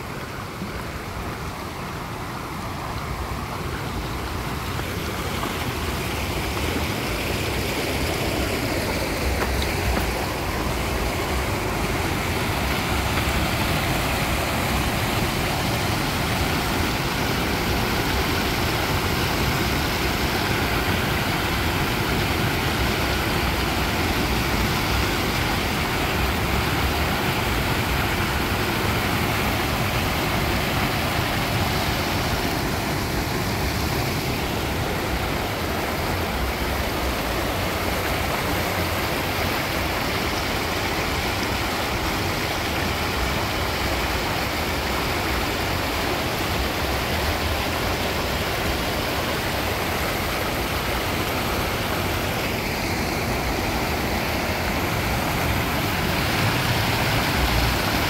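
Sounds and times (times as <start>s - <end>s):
water rushing over weir: 0.0s - 58.0s.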